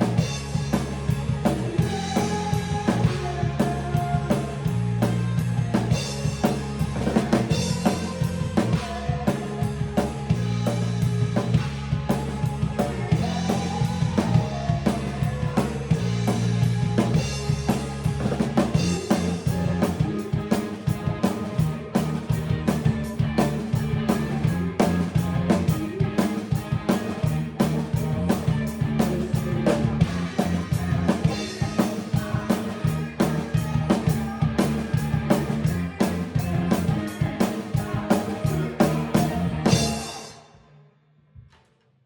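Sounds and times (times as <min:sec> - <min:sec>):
fast drum kit beat: 0:00.0 - 0:40.4
band music: 0:00.0 - 0:40.5.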